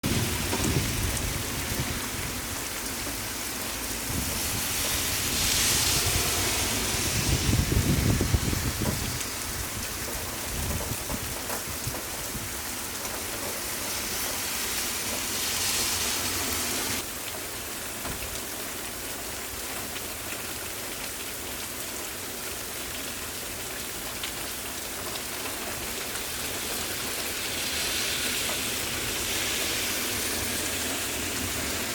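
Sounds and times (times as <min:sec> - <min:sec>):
rain hissing: 0:00.0 - 0:19.1, 0:22.1 - 0:31.9.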